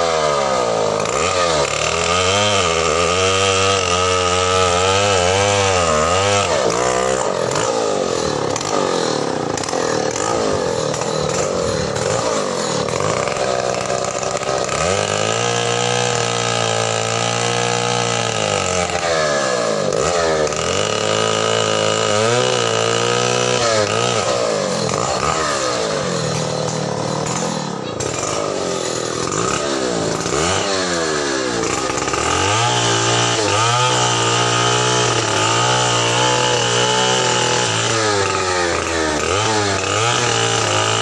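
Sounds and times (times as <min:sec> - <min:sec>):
chainsaw cutting tree trunk: 0:00.0 - 0:41.0.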